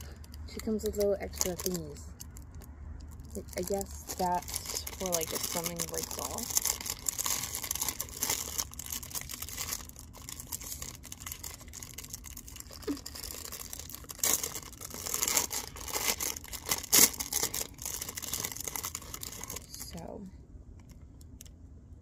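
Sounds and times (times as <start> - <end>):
plastic bag crinkling: 0.0 - 20.1.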